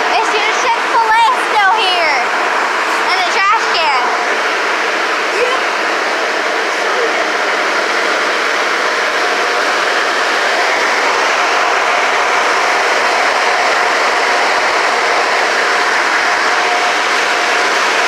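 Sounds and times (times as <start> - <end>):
car wash rushing noise: 0.0 - 18.0.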